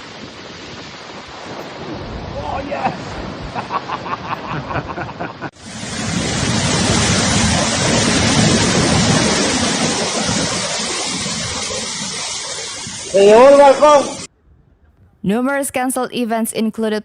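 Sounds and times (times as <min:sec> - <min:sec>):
waves breaking: 0:00.0 - 0:14.3
wind on microphone: 0:00.0 - 0:15.2.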